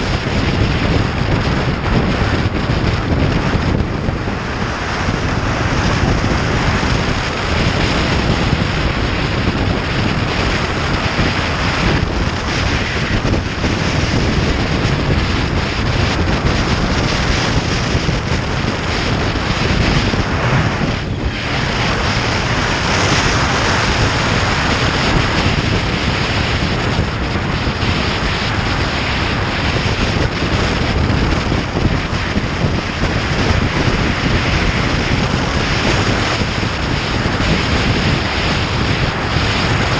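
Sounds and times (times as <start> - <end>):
motorcycle running: 0.0 - 39.9
road noise: 0.0 - 39.9
wind rushing over microphone: 0.0 - 39.9.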